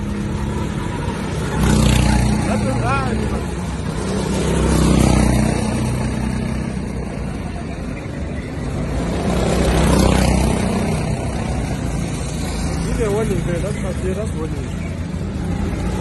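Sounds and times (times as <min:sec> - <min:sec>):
go-kart engines running: 0:00.0 - 0:16.0.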